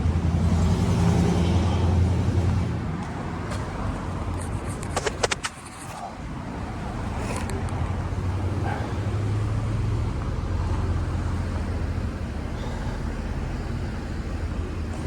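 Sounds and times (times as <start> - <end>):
road traffic noise: 0.0 - 15.0
vehicle engine humming: 0.0 - 15.0.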